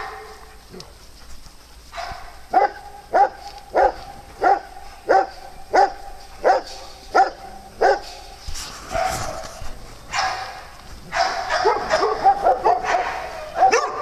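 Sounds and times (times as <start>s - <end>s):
dog barking: 0.0s - 0.4s, 2.0s - 8.3s, 8.9s - 14.0s.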